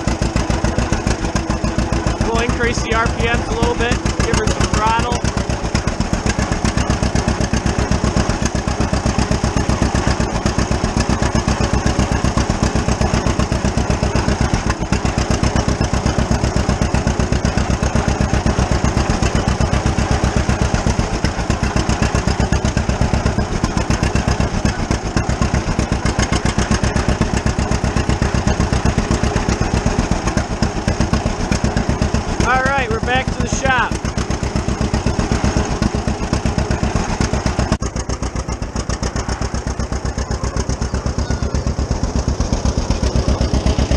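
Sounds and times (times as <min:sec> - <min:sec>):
tractor engine popping: 0:00.0 - 0:43.9.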